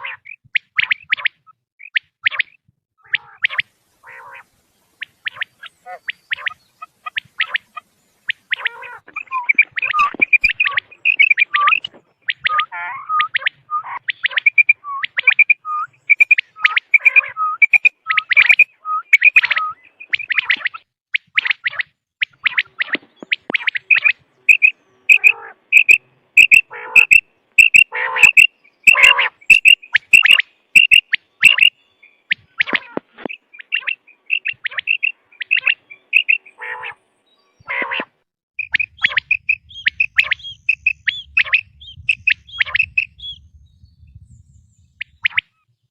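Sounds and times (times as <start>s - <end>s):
quail calling in sharp high notes: 0.0s - 37.0s, 37.6s - 43.2s.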